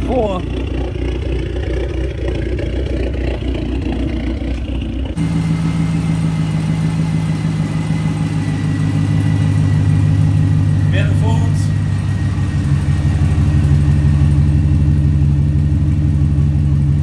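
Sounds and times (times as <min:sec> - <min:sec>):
car engine idling: 0:00.0 - 0:17.0
v-eight engine idling: 0:00.0 - 0:17.0.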